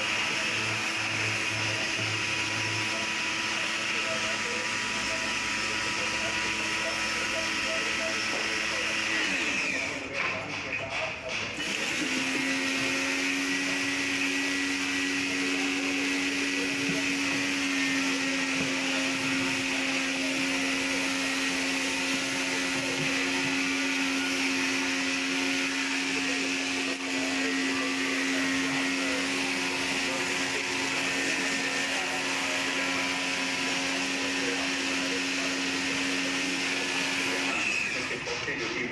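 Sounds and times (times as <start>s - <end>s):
small electric motor whining: 0.0s - 10.1s, 11.6s - 38.5s.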